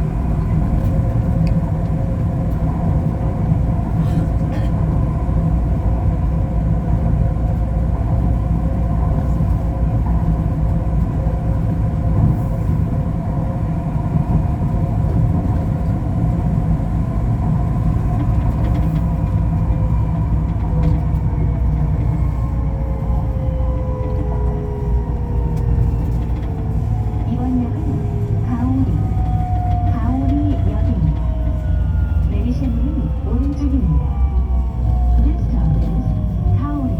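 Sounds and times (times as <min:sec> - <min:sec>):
train running gear rumble: 0:00.0 - 0:36.9.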